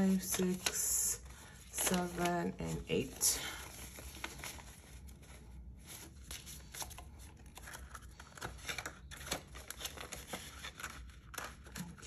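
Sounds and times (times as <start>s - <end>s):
paper bills rustling: 0.0s - 12.0s
paper envelope rustling: 0.0s - 12.0s.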